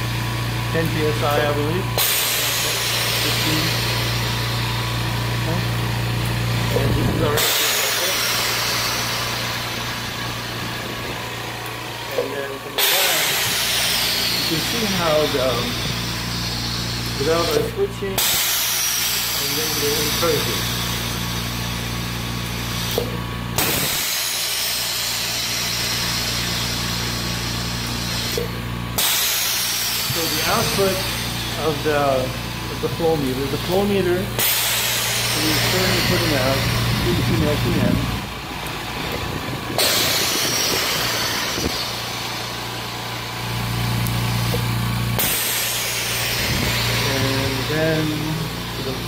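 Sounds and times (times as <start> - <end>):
air hissing: 0.0 - 49.0
compressor humming: 0.0 - 49.0.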